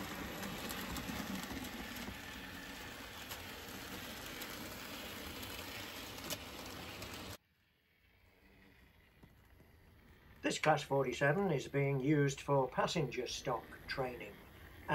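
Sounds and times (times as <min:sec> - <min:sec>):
model train motor and wheels whirring: 0:00.0 - 0:14.9.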